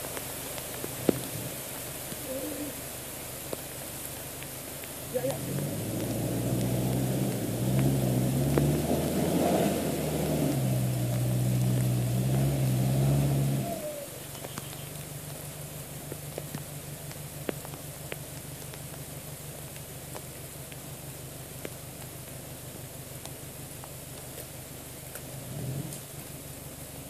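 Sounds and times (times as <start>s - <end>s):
pickup truck engine pulling through mud: 0.0s - 27.0s
rain hissing: 0.0s - 27.0s.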